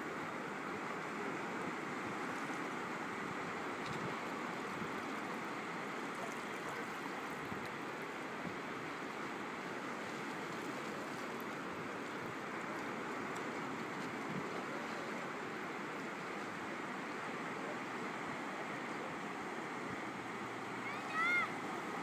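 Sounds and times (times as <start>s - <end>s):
shallow water washing over sand: 0.0s - 22.0s.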